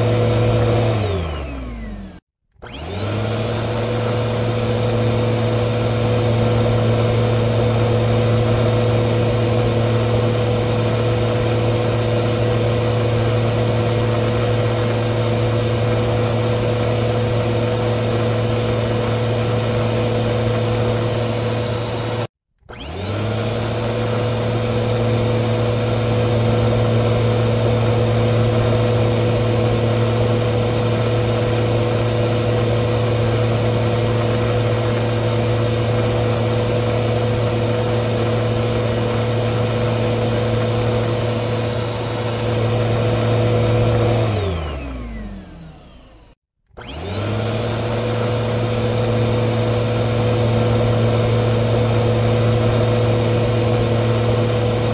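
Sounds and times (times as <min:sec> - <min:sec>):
vacuum cleaner motor running: 0:00.0 - 0:54.9.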